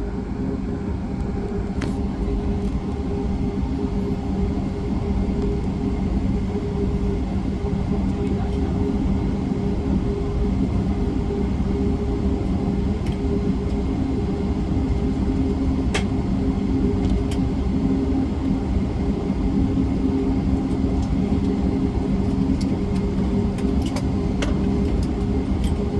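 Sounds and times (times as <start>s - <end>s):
airplane cabin rumble: 0.0s - 25.9s
constant hum: 0.0s - 25.9s.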